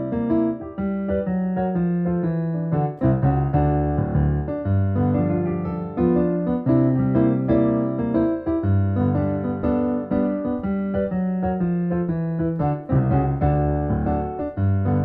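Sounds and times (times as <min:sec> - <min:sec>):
electric piano playing: 0:00.0 - 0:15.0.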